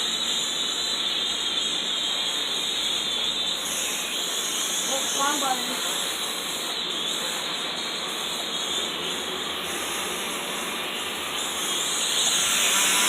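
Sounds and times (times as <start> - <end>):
toy drone propellers whirring: 0.0 - 13.0.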